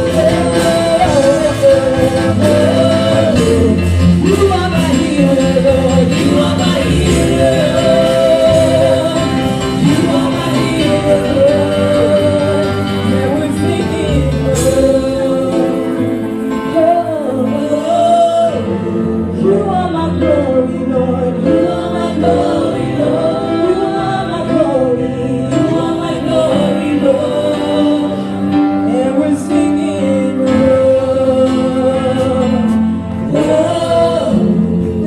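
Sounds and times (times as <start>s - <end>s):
instrumental backing: 0.0s - 35.0s
women singing gospel song: 0.0s - 35.0s.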